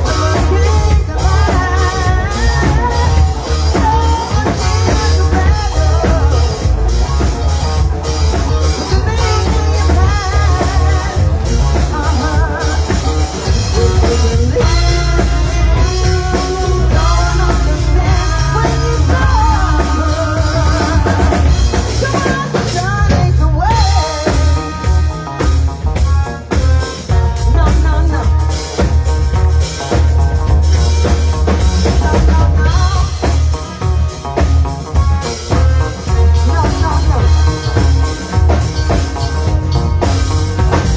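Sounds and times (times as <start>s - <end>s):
drum kit: 0.0s - 40.9s
heavy bass line: 0.0s - 40.9s
person singing: 0.0s - 40.9s.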